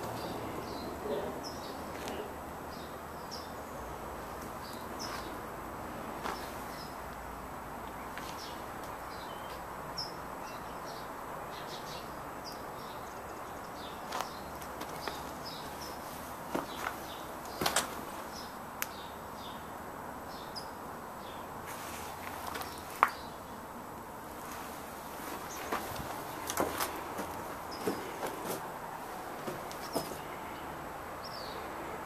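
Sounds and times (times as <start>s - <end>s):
small birds chirping: 0.0s - 5.5s, 6.2s - 23.8s, 24.4s - 32.0s
steady background noise: 0.0s - 32.0s.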